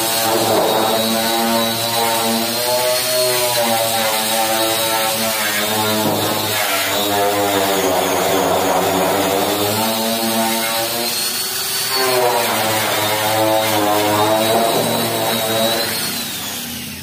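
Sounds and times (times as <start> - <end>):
angle grinder sanding metal: 0.0 - 17.0.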